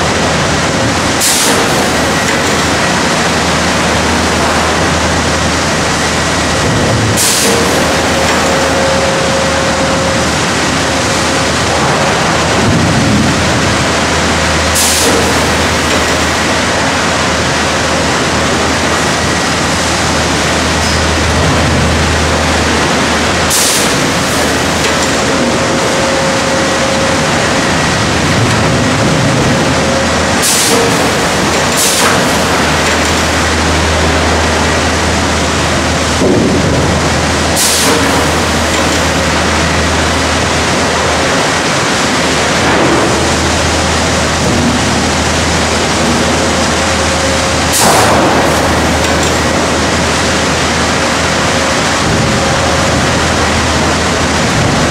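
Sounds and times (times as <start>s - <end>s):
low hum: 0.0s - 54.9s
sawmill machinery running: 0.0s - 54.9s.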